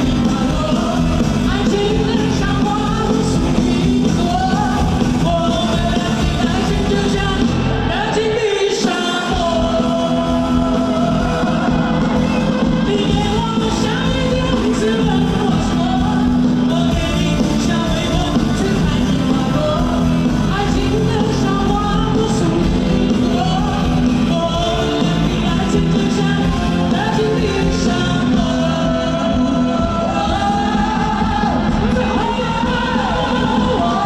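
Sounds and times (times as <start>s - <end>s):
live rock band with vocals: 0.0s - 34.0s.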